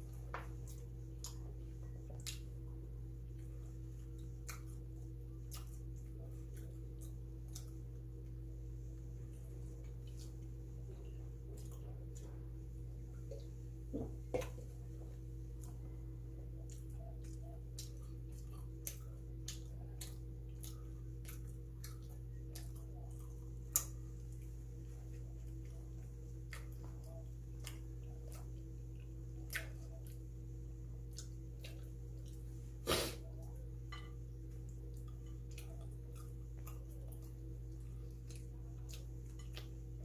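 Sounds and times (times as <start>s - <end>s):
chewing mouth clicks and squishes: 0.0s - 13.6s, 14.4s - 40.0s
low electrical hum: 0.0s - 40.0s.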